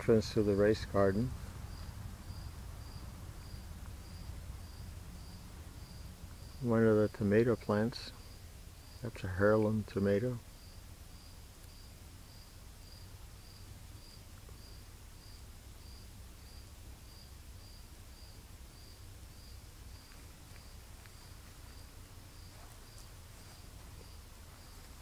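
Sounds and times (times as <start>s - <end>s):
insect chirping: 0.0s - 9.6s, 10.4s - 25.0s
faint low rumble: 0.0s - 25.0s.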